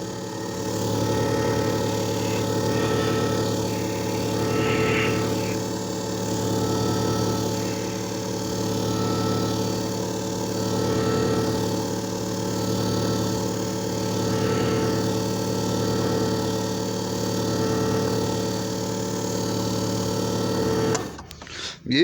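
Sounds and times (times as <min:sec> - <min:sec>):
machine motor hum: 0:00.0 - 0:21.6.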